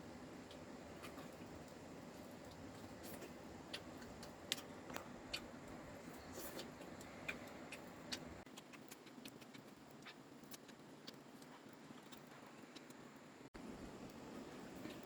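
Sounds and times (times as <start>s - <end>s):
small clicks and ticks: 0.4s - 15.0s.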